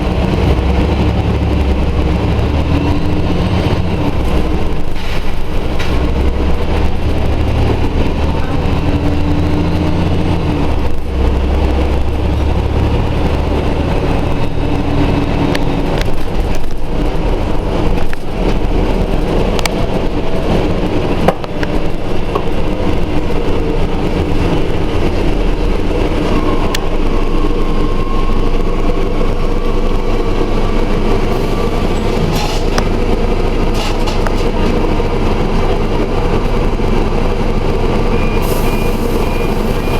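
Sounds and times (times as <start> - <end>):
bus engine running: 0.0 - 39.9
road noise: 0.0 - 39.9.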